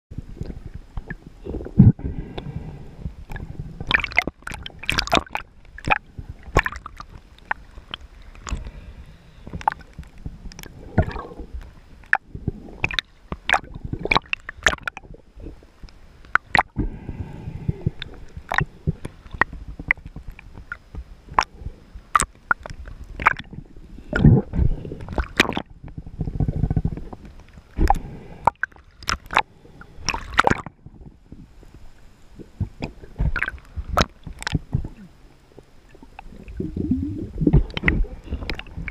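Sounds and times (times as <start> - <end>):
water sloshing and gurgling: 0.1 - 38.9.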